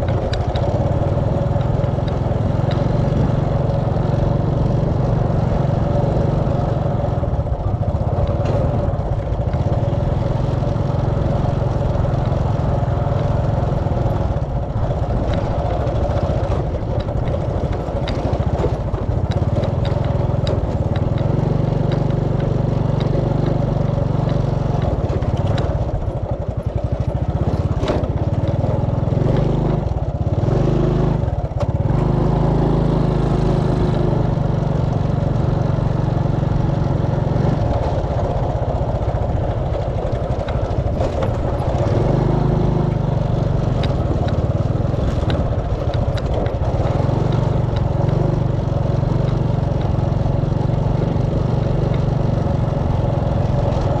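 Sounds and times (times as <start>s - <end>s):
small motorbike engine running: 0.0s - 54.0s.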